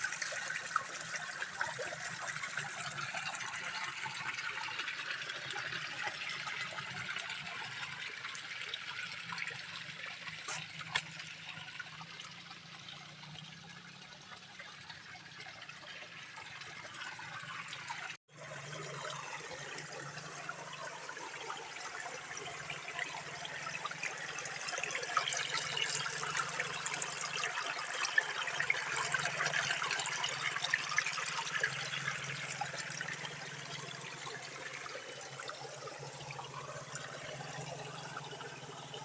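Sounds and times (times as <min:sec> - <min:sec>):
water spouting and splashing: 0:00.0 - 0:39.0.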